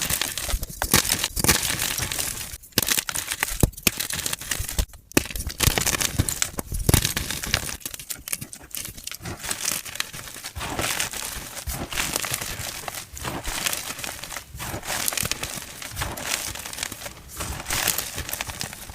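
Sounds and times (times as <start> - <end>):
chalk crunching and crackling: 0.0 - 18.9.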